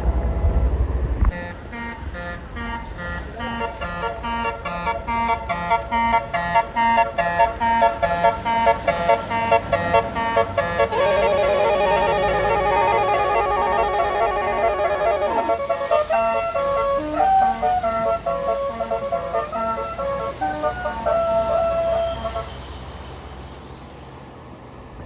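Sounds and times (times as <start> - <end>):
multi-tone bus horn tune: 1.3 - 22.7.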